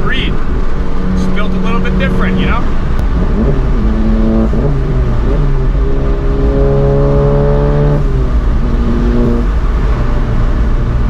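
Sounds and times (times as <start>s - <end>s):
car engine accelerating: 0.0s - 11.0s
low road rumble: 0.0s - 11.0s.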